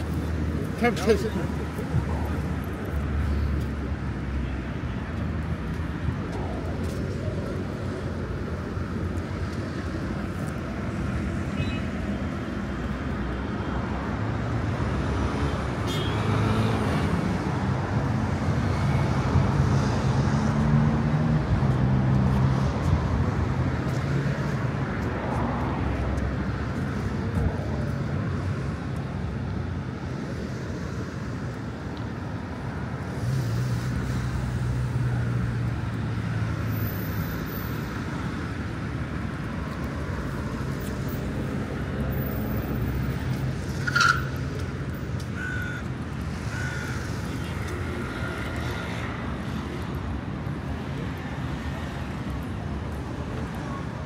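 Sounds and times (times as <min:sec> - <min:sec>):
road noise: 0:00.0 - 0:54.0
vehicle engines passing: 0:00.0 - 0:54.0.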